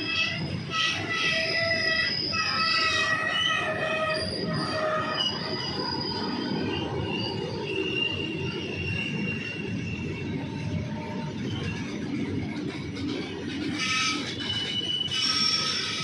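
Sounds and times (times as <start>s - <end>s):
high wheel squeals: 0.0s - 16.0s
rumble of wheels on rail: 0.0s - 16.0s.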